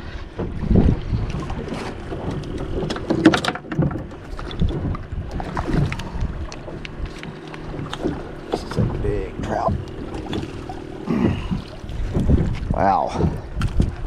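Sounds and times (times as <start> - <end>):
water slapping boat hull: 0.0 - 14.0
wind rumbling on microphone: 0.0 - 14.0
knocks and clicks of fishing gear: 0.3 - 14.0.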